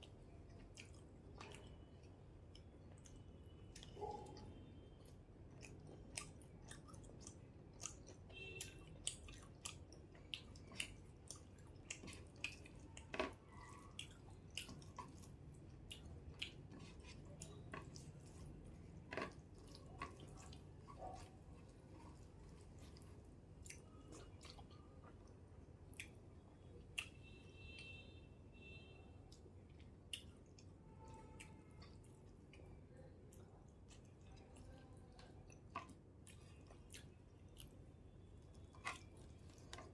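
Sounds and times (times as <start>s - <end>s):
person chewing food: 0.0s - 28.0s, 28.6s - 39.9s.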